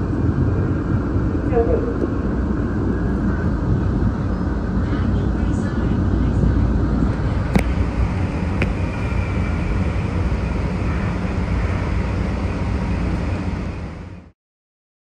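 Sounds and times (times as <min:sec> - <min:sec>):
light rail vehicle rumbling: 0:00.0 - 0:14.4.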